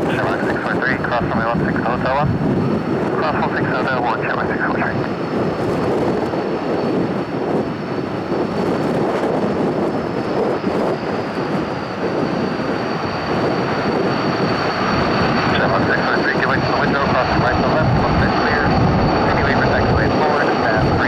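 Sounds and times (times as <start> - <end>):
high engine whine: 0.0 - 21.0
turboprop engines roaring: 0.0 - 21.0.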